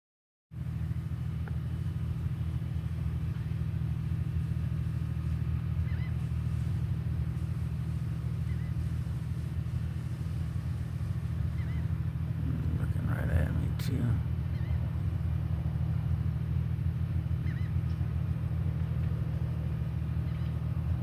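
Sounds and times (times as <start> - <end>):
steady low rumble: 0.6 - 21.0.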